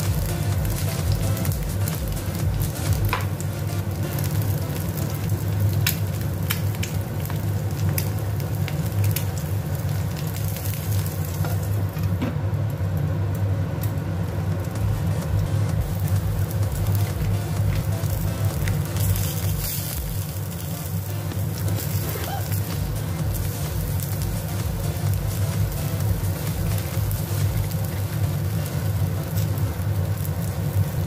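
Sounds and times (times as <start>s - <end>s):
food sizzling in frying pan: 0.0s - 31.0s
low steady hum: 0.0s - 31.0s.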